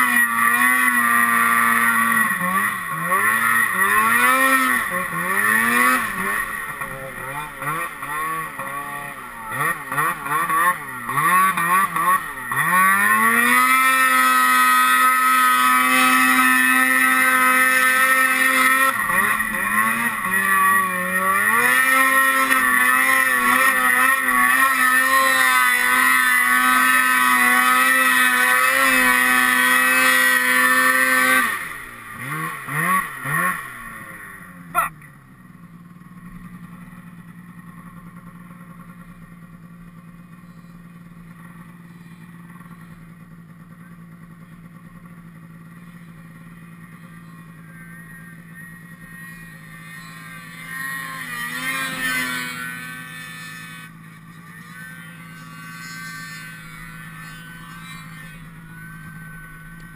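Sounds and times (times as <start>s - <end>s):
snowmobile engine revving and idling: 0.0s - 59.9s.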